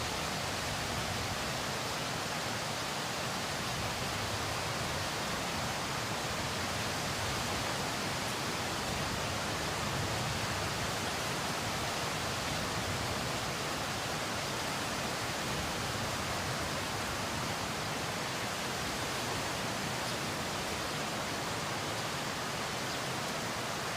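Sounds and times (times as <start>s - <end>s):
rushing water: 0.0s - 23.9s.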